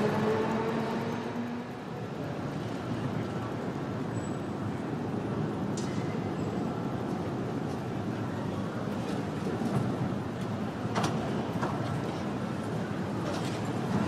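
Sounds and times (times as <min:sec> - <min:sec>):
low city rumble: 0:00.0 - 0:14.0
tram rolling on rails: 0:00.0 - 0:14.0.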